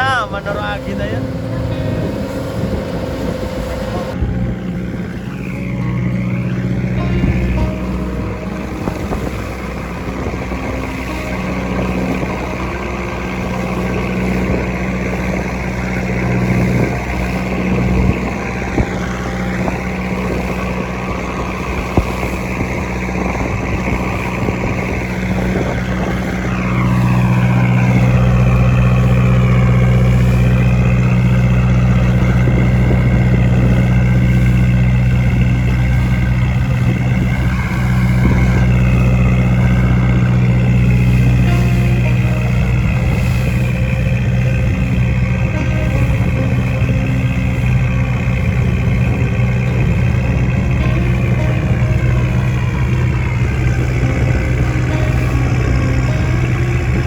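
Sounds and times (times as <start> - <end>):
boat engine droning: 0.0 - 57.0
water wash: 0.0 - 57.0.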